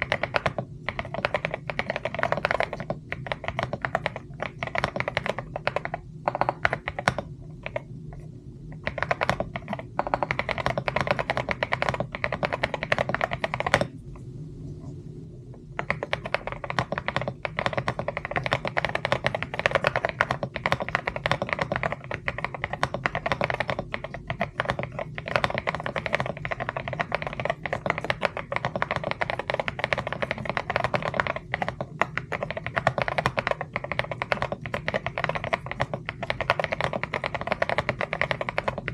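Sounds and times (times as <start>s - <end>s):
mechanical keyboard typing: 0.0s - 14.0s, 15.8s - 38.9s.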